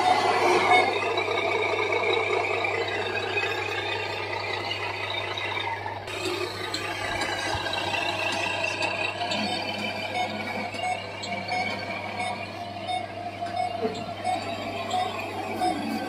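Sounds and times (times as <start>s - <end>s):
toy truck motor whirring: 0.0s - 16.0s.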